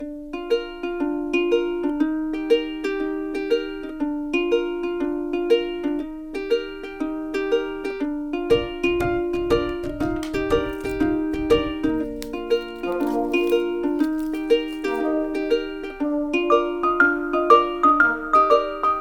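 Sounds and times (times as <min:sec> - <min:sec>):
plucked-string tune: 0:00.0 - 0:19.0.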